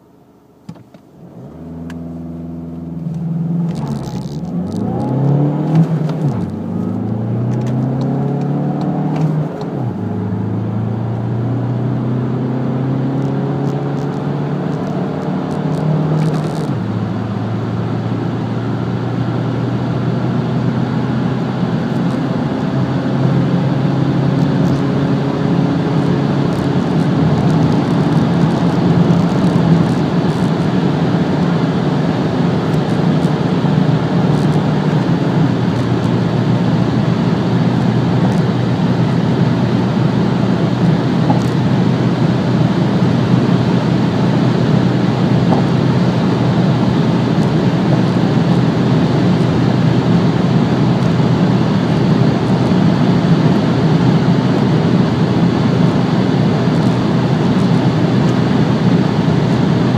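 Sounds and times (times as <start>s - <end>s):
wind and tyre noise: 0.7s - 59.9s
car engine accelerating: 1.2s - 59.9s.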